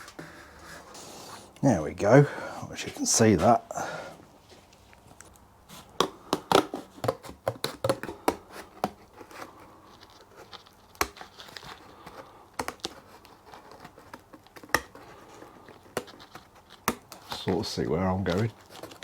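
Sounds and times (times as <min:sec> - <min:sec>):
cardboard crinkling and tapping: 0:00.0 - 0:01.7, 0:04.5 - 0:19.0.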